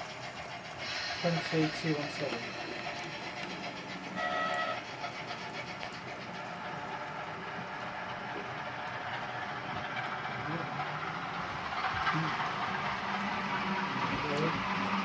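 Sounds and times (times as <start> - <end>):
model train motors whirring: 0.0 - 15.0.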